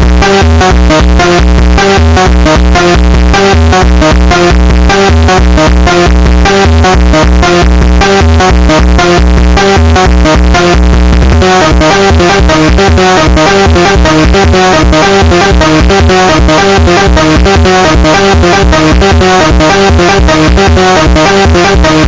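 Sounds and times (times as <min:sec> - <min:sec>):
fast electronic music with heavy bass: 0:00.0 - 0:22.0.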